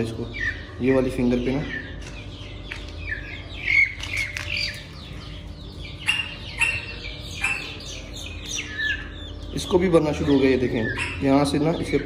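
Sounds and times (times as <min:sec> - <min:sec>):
chick peeping: 0:00.0 - 0:12.0.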